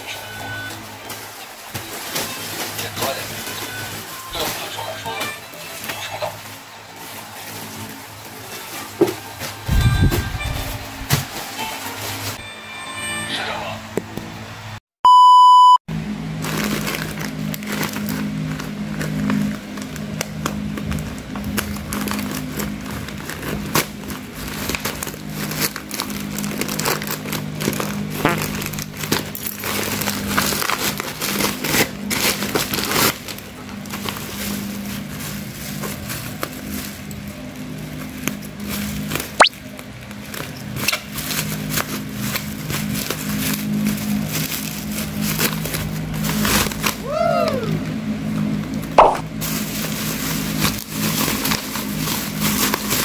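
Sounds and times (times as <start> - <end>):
plastic bags crinkling: 0.4 - 12.4, 16.4 - 39.3, 39.9 - 47.0, 49.3 - 53.0.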